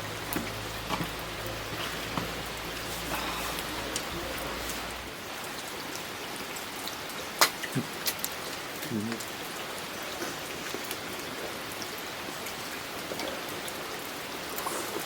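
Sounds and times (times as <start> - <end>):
raindrops tapping on surfaces: 0.0 - 15.0
steady rain falling: 0.0 - 15.0.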